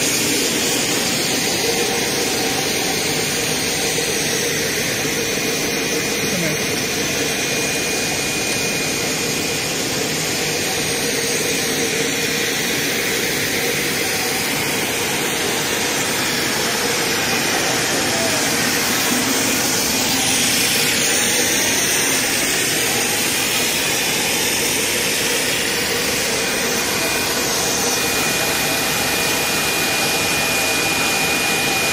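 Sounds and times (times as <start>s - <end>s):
extrusion machine rushing noise: 0.0s - 31.8s
high machine whine: 0.0s - 31.9s.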